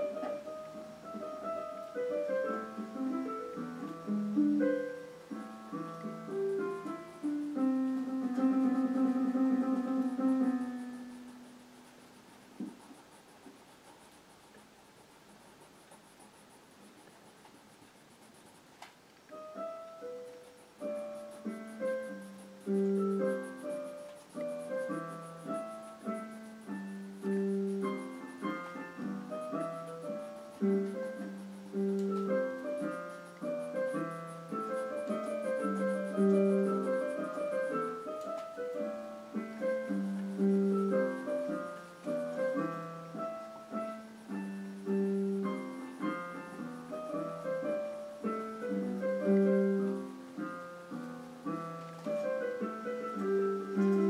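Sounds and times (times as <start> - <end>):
piano music: 0.0 - 12.8, 19.2 - 54.0.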